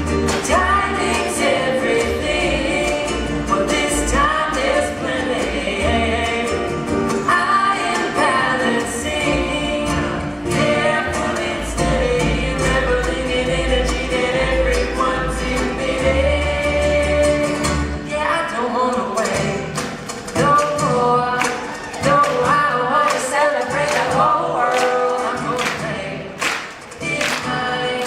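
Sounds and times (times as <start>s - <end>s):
lead and harmony vocals: 0.0s - 28.0s.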